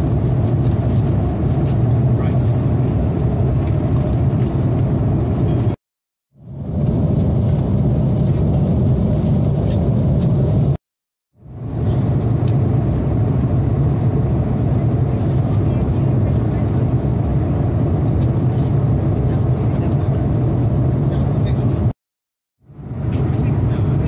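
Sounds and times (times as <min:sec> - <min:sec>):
airliner cabin rumble: 0:00.0 - 0:05.8, 0:06.4 - 0:10.8, 0:11.4 - 0:22.0, 0:22.7 - 0:24.0.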